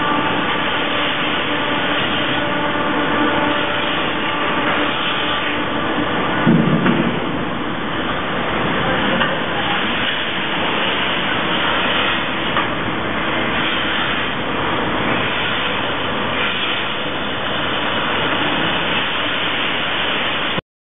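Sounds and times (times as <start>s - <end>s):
milking machine running: 0.0s - 20.6s.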